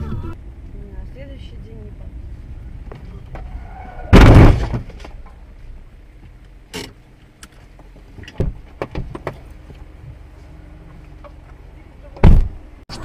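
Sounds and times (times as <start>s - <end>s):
car interior hum: 0.0s - 13.0s.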